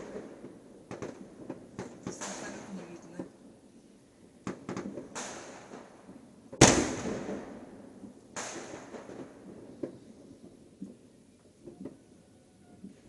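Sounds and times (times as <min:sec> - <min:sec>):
fireworks banging: 0:00.0 - 0:03.5, 0:04.4 - 0:12.0.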